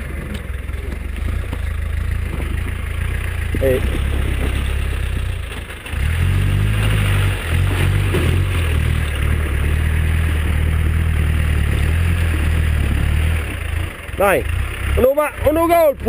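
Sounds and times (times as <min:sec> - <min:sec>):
off-road vehicle engine under load: 0:00.0 - 0:16.0.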